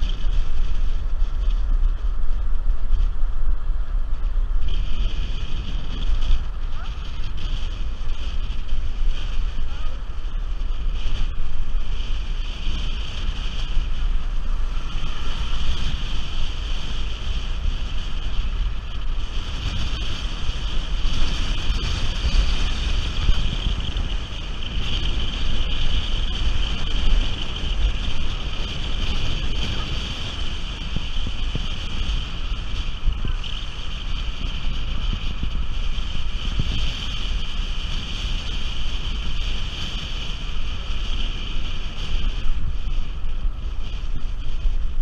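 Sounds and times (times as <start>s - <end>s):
car engine noise: 0.0s - 45.0s
car road noise: 0.0s - 45.0s
wind rumble on microphone: 0.0s - 45.0s.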